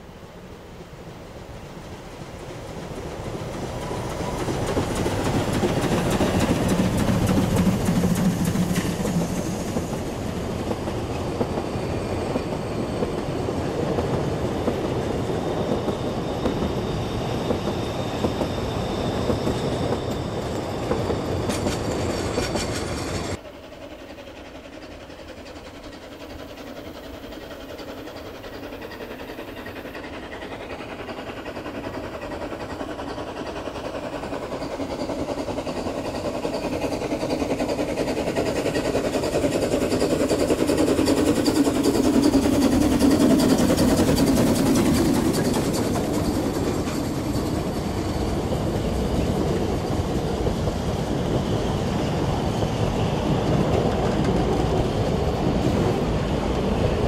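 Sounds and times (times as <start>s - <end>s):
distant train approaching: 0.0s - 57.0s
steam train passing: 0.0s - 57.0s
wheels clacking on rail joints: 2.9s - 23.4s, 24.2s - 56.6s.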